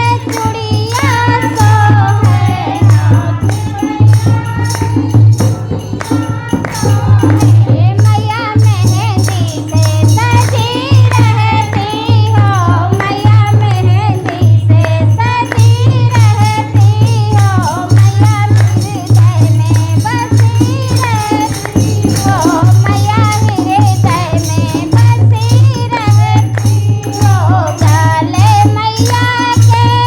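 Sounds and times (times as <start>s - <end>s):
devotional song: 0.0s - 30.0s
rattling jingle percussion: 0.0s - 30.0s
steady drum beat: 0.0s - 30.0s.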